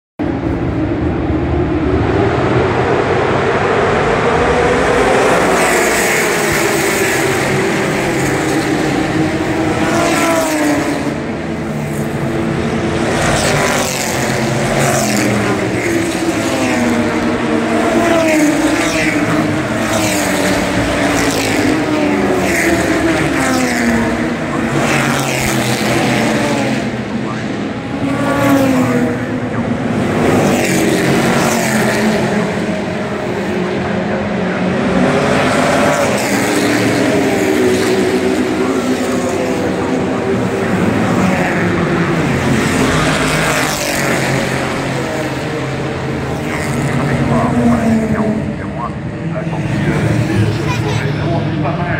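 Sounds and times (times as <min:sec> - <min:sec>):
racing cars passing: 0:00.2 - 0:51.9.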